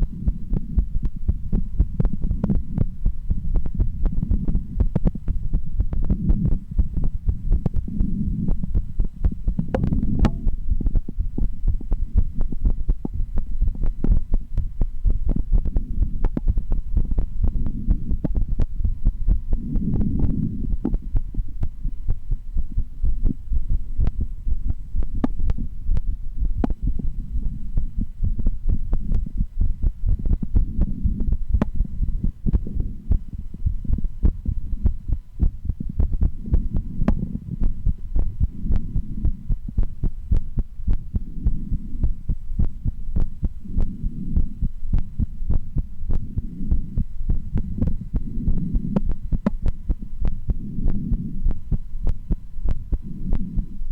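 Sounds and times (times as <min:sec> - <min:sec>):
heartbeat through stethoscope: 0:00.0 - 0:53.9.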